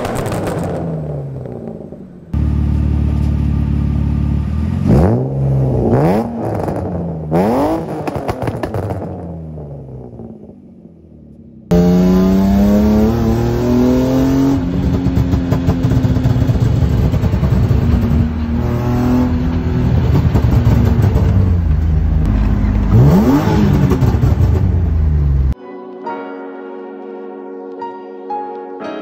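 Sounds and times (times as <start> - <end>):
car engine accelerating hard: 0.0 - 10.4, 11.7 - 25.6.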